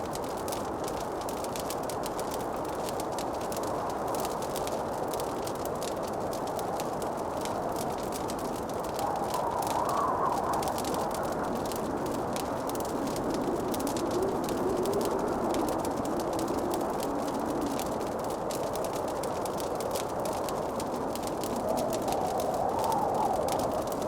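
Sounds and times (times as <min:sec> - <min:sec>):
log fire crackling: 0:00.0 - 0:24.0.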